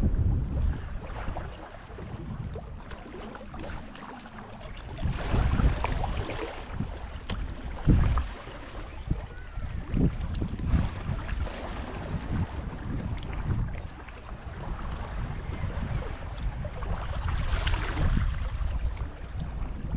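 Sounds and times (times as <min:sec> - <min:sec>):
sea waves washing: 0:00.0 - 0:19.9
wind gusting over microphone: 0:00.0 - 0:19.9.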